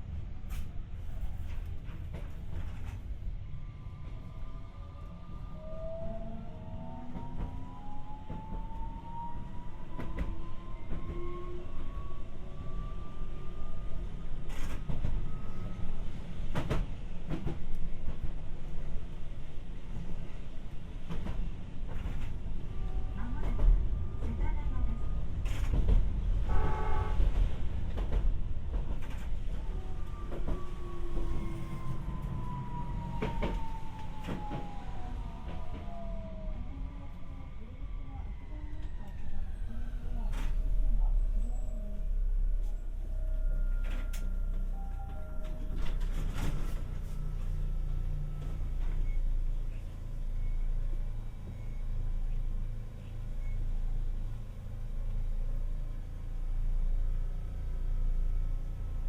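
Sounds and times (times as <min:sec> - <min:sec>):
tram rumbling: 0:00.0 - 0:59.0.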